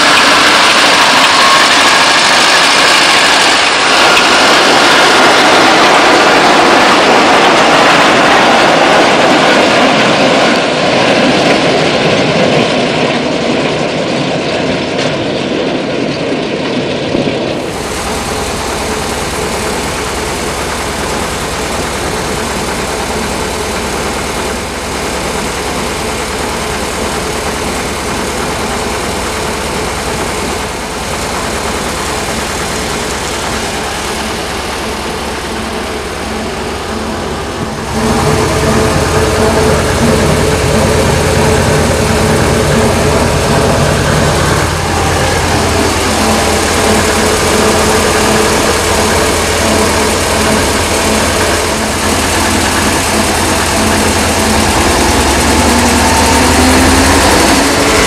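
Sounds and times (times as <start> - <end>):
diesel locomotive passing: 0.0 - 58.0
low engine drone: 0.0 - 58.0.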